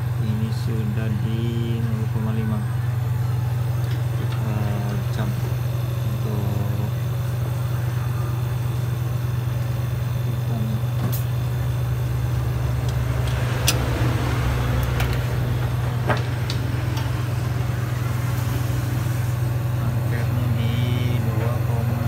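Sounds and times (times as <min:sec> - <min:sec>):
refrigerator compressor humming: 0:00.0 - 0:22.0.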